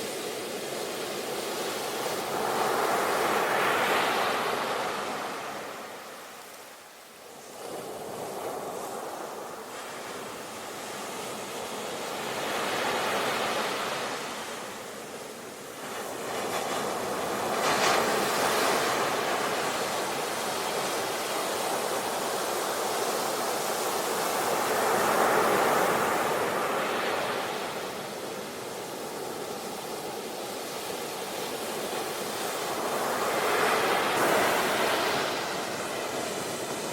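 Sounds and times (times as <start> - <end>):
sea waves washing in: 0.0 - 36.9.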